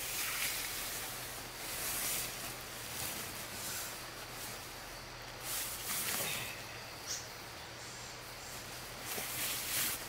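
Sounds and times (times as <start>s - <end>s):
tent fabric rustling: 0.0s - 6.7s, 8.4s - 10.0s.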